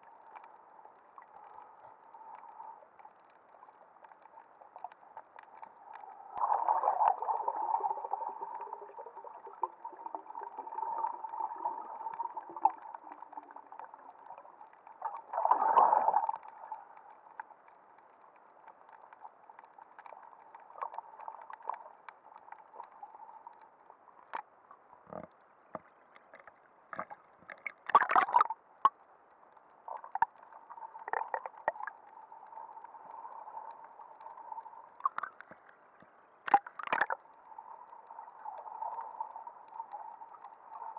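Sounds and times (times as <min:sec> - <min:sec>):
underwater bubbling and swishing: 0:00.0 - 0:40.9.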